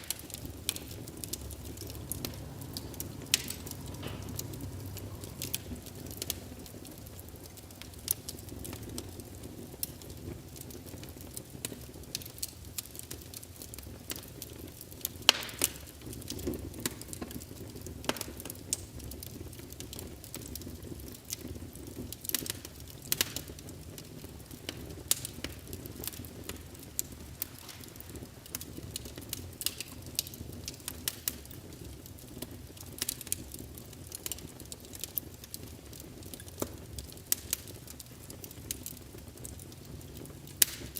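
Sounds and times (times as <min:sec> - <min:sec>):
low fire rumble: 0:00.0 - 0:40.9
wood fire crackling: 0:00.0 - 0:40.9.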